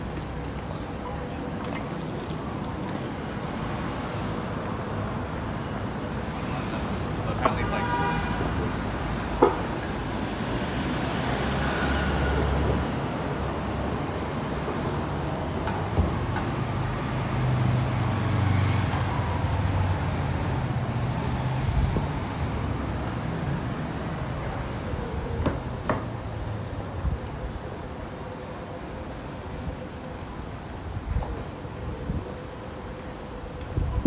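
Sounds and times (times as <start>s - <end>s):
cars passing: 0.0s - 33.8s.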